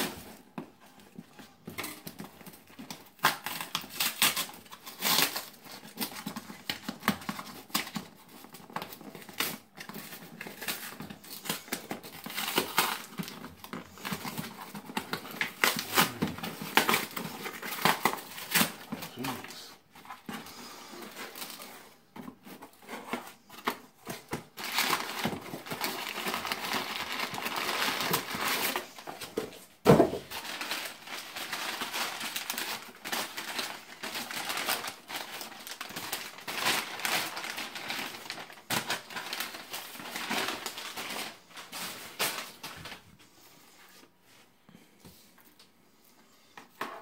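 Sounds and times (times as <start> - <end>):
paper rustling and crinkling: 0.0 - 43.3.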